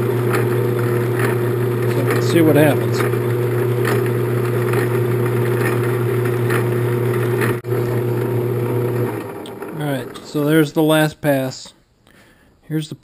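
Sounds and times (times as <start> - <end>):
lathe motor and gear hum: 0.0 - 10.5.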